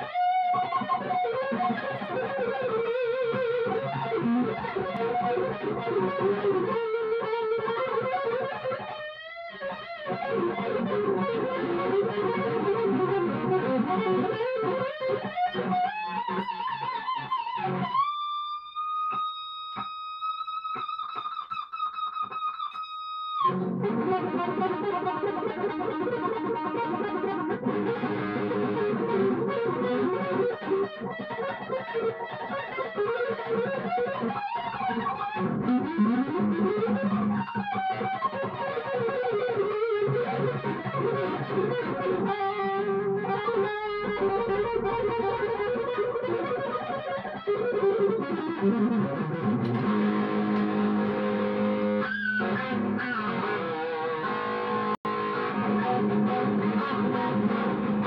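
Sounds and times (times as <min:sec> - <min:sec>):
electric guitar lead runs: 0:00.0 - 0:58.0.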